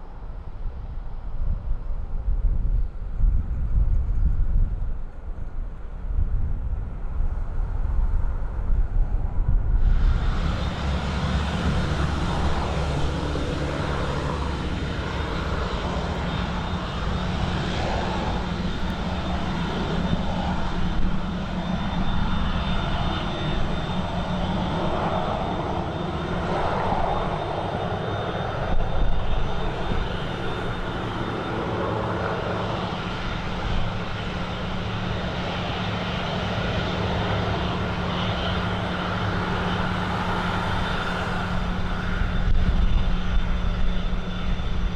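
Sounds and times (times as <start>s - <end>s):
airplane engines humming and whining: 0.0s - 44.9s.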